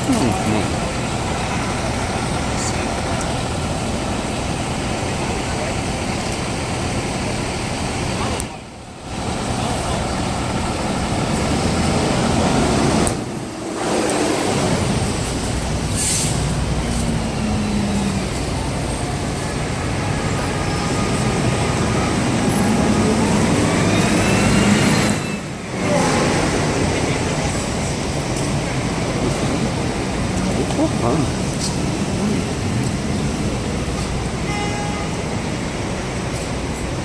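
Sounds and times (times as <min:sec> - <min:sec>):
traffic rumble: 0:00.0 - 0:37.0
vehicle engines running: 0:00.0 - 0:37.0.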